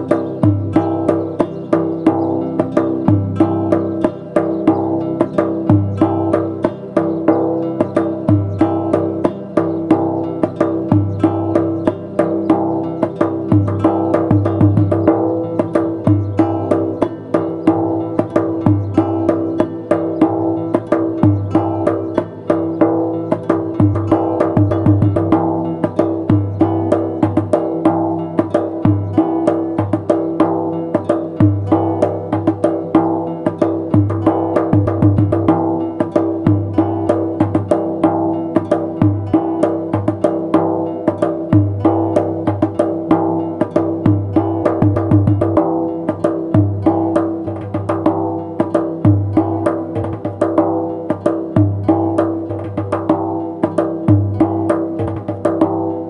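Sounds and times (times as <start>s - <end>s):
fast goblet drum rhythm: 0.0s - 56.0s
sustained melodic backing: 0.0s - 56.0s.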